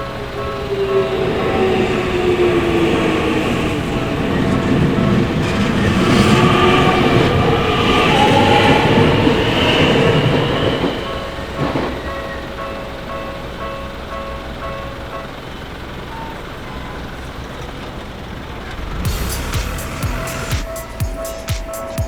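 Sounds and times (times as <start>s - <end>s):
crossing warning bell ringing: 0.0s - 22.0s
train wheels rumbling and clacking: 0.0s - 22.0s.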